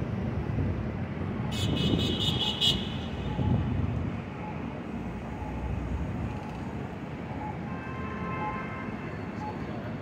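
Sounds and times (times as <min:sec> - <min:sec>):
cars passing: 0:00.0 - 0:10.0.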